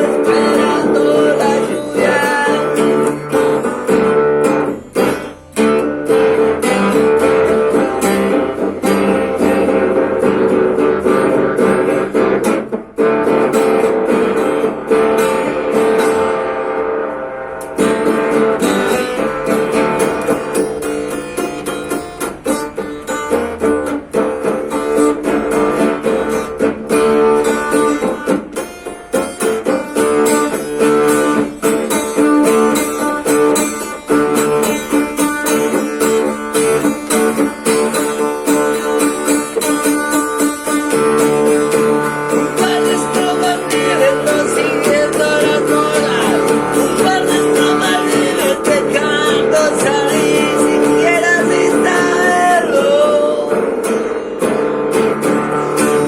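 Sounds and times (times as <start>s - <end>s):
guitar picking: 0.0s - 56.0s.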